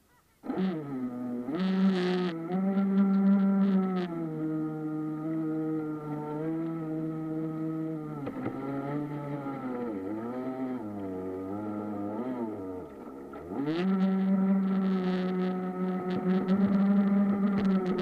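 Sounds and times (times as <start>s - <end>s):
model boat motor running: 0.4s - 18.0s.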